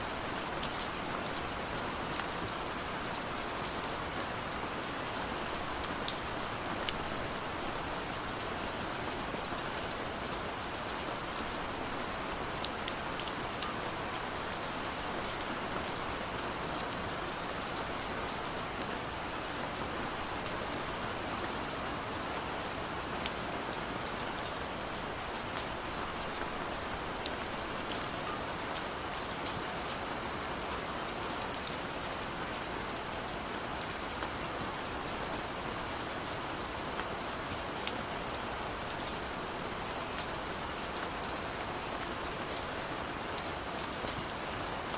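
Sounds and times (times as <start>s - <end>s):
gentle rain hiss: 0.0s - 44.9s.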